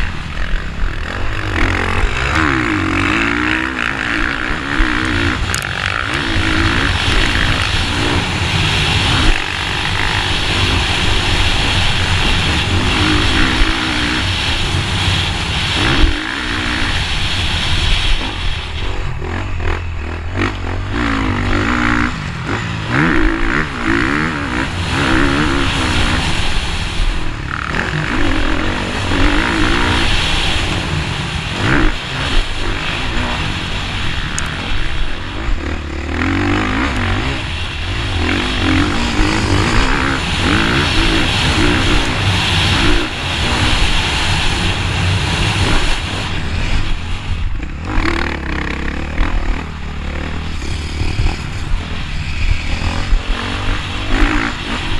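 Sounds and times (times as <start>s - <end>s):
dirt bike engine revving: 0.0s - 54.9s
wind rumble on microphone: 0.0s - 54.9s.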